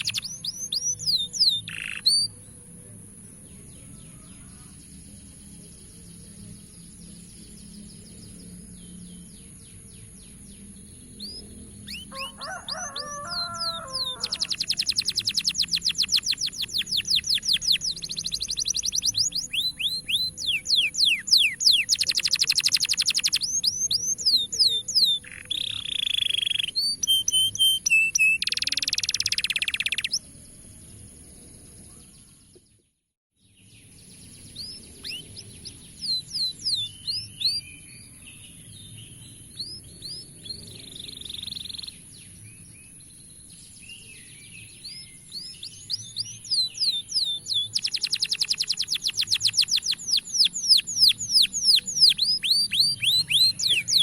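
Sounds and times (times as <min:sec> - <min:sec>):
canary singing trills: 0:00.0 - 0:30.4, 0:34.0 - 0:54.0.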